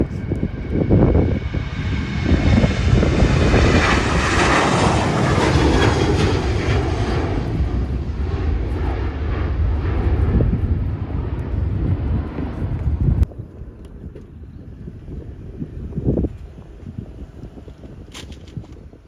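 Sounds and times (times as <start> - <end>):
low rumble: 0.0 - 17.7
plane engines passing: 0.0 - 19.0.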